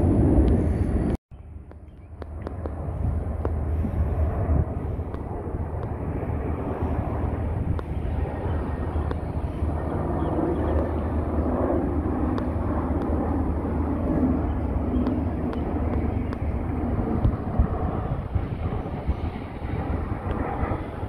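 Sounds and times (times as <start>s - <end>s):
jet engines rumbling overhead: 0.0s - 21.0s.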